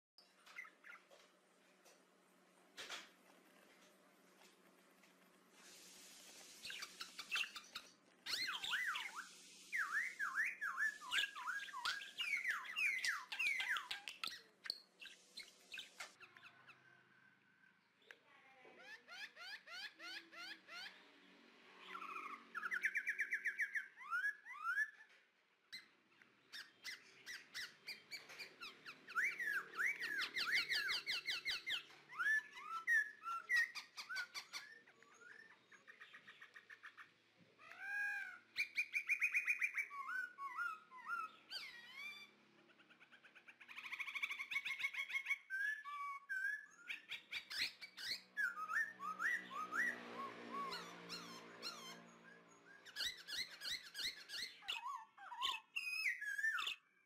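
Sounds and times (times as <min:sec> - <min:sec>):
forest birds chirping and trilling: 0:00.2 - 0:02.1, 0:05.6 - 0:57.0.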